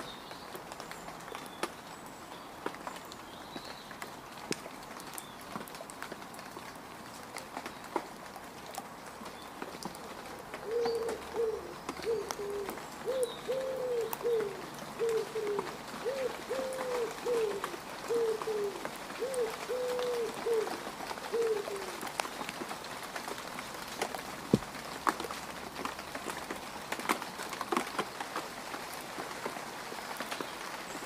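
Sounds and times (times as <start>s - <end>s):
rain dripping onto mud: 0.0s - 31.0s.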